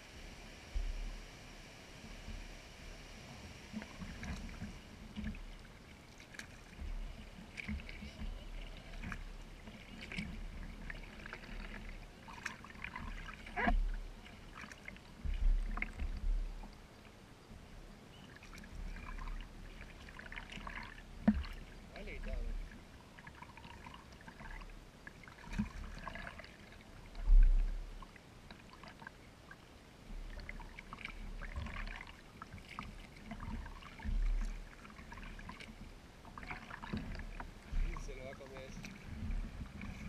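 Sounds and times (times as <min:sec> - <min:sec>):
paddle splashing in water: 0:03.7 - 0:17.2, 0:18.1 - 0:40.0.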